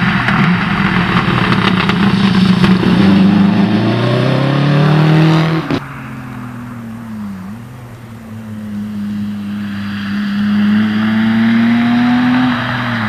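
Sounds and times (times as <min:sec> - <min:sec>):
another car engine: 0:00.0 - 0:13.0
rally car engine approaching: 0:00.0 - 0:13.0.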